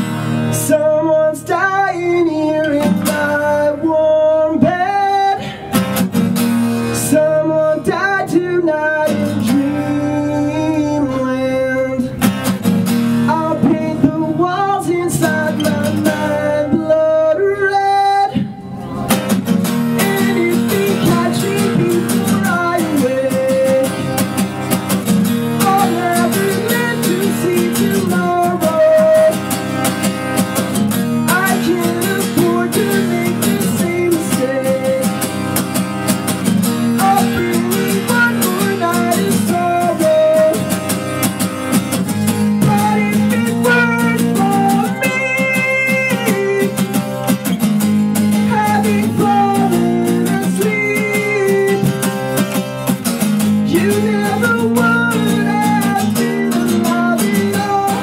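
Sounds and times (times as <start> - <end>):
man singing: 0.0 - 6.0, 6.8 - 12.3, 13.0 - 18.8, 19.7 - 29.9, 31.0 - 35.6, 36.4 - 41.4, 42.0 - 52.6, 53.4 - 58.0
acoustic guitar strumming: 0.0 - 58.0.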